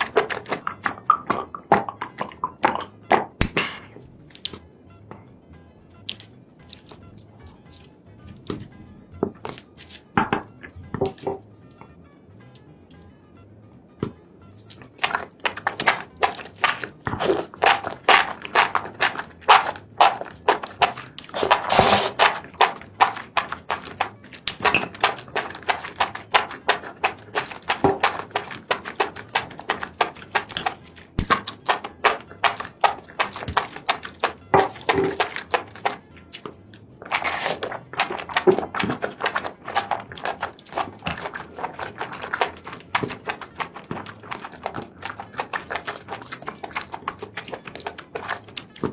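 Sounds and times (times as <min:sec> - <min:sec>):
close chewing and mouth noises: 0:00.0 - 0:03.4, 0:04.2 - 0:04.6, 0:05.9 - 0:11.7, 0:14.5 - 0:48.9.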